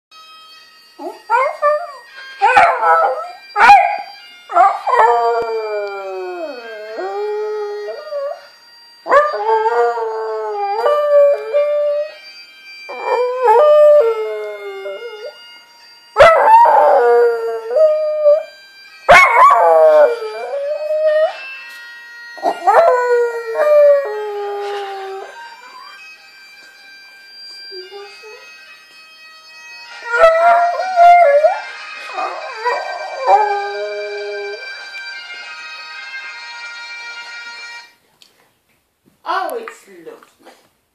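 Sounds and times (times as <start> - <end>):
faint bagpipe music: 0.2 - 38.1.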